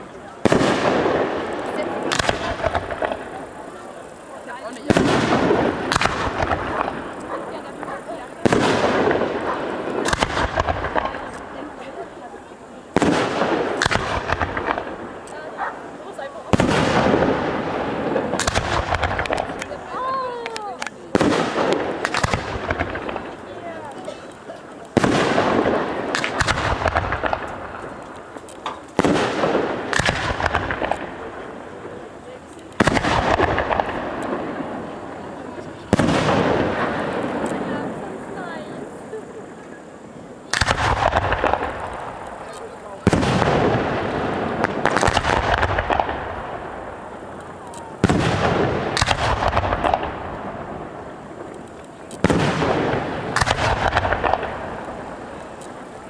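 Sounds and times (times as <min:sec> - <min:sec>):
firework crackling pops: 0:00.0 - 0:56.0
rolling echo: 0:00.0 - 0:56.0
firework shell bursts: 0:00.4 - 0:12.3, 0:12.9 - 0:56.0.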